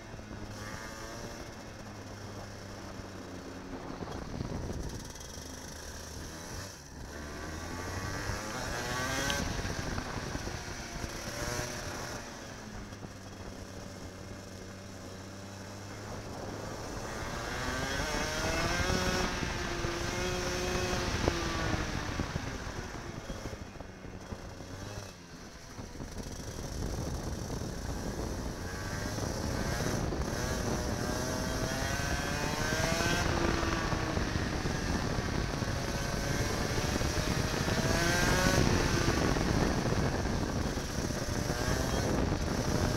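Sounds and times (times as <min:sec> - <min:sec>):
go-kart engine accelerating: 0:00.0 - 0:42.9.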